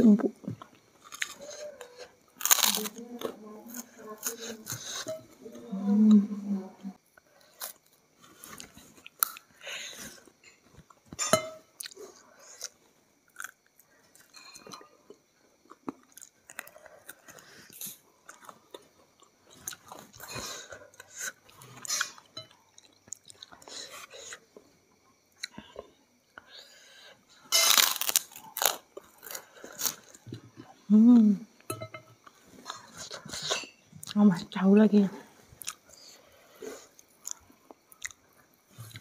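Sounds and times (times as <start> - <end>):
person chewing food: 0.5 - 5.2, 7.2 - 11.2, 11.8 - 30.9, 35.4 - 39.0.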